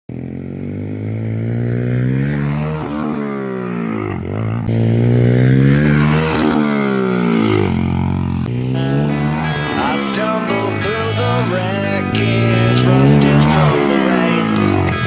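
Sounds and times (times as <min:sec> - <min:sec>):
small engine revving: 0:00.1 - 0:15.0.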